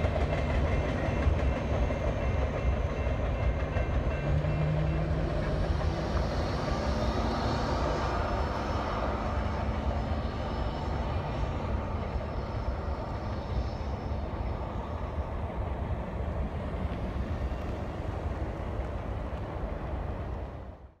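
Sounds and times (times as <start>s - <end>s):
freight train rumbling on rails: 0.0s - 21.0s.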